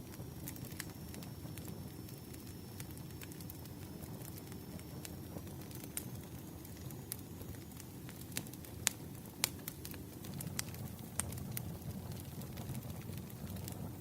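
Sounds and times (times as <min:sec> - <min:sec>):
firewood crackling and popping: 0:00.0 - 0:14.0
low rush of flames: 0:00.0 - 0:14.0.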